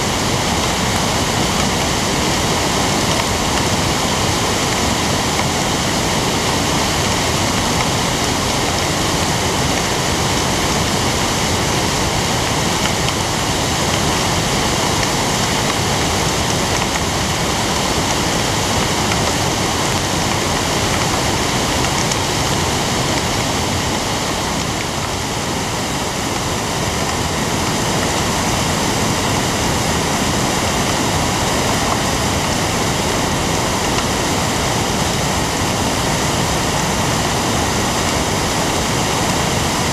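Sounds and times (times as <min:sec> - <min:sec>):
flooded creek rushing: 0:00.0 - 0:39.9.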